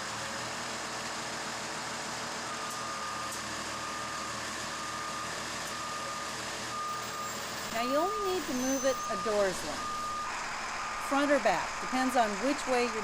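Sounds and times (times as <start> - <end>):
bus engine idling: 0.0 - 13.0
reverse backup alarm beeping: 2.4 - 13.0.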